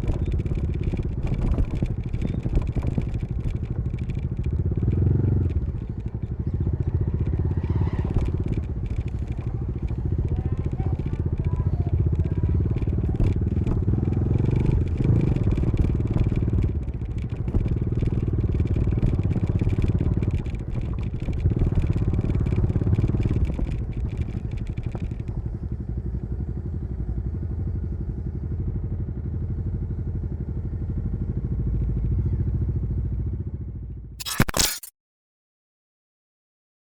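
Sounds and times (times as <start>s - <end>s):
motorcycle engine and exhaust: 0.0s - 34.7s.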